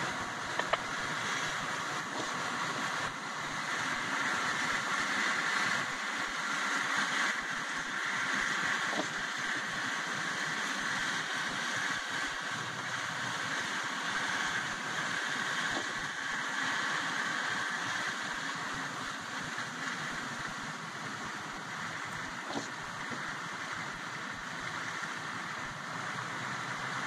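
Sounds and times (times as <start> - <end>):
car road noise: 0.0 - 27.0.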